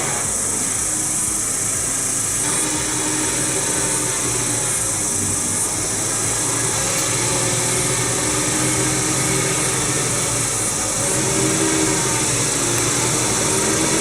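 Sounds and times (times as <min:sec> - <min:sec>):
heavy truck engine running: 0:00.0 - 0:14.0.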